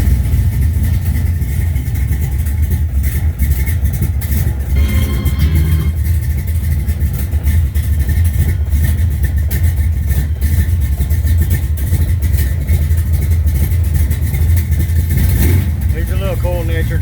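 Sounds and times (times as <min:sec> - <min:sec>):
car engine idling loudly: 0:00.0 - 0:17.0.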